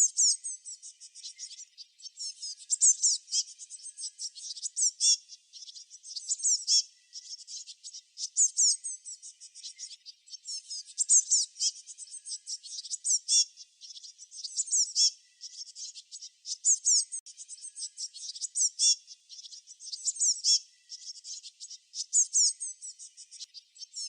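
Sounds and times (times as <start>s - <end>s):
small songbirds chirping: 0.0s - 24.0s.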